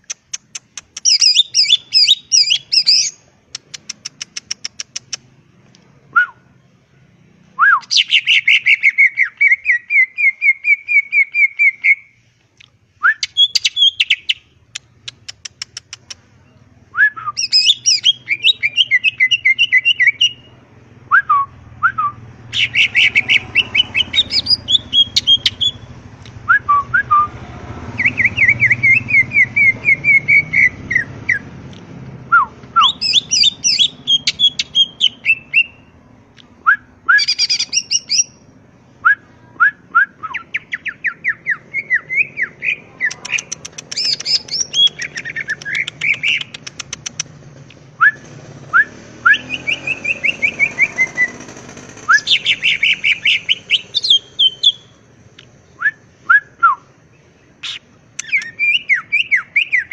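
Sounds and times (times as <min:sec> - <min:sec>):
bird singing rapid phrases: 0:00.0 - 0:05.6, 0:06.3 - 0:36.0, 0:36.6 - 0:59.9.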